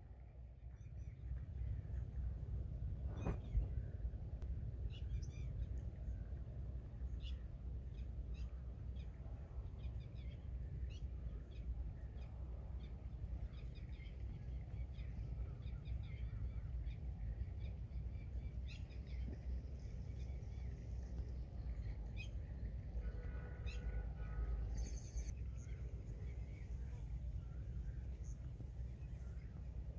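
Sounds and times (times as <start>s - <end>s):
low outdoor rumble: 0.0s - 29.9s.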